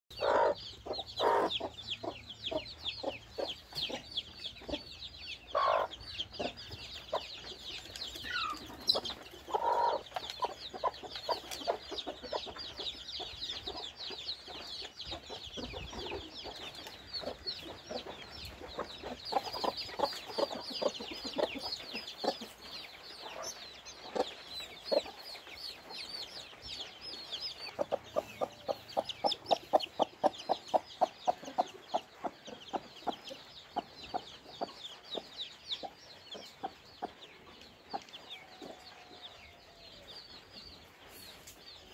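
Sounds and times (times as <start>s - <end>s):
hen clucking: 0.1s - 39.5s
chicks peeping: 0.1s - 41.9s.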